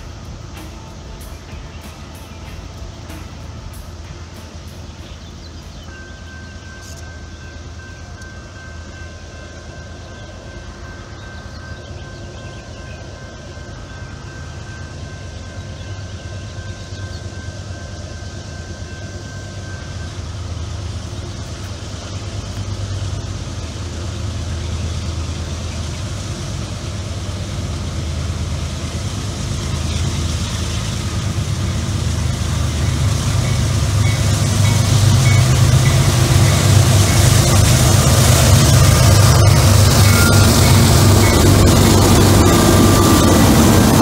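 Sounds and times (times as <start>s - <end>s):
locomotive engine rumble: 0.0s - 44.0s.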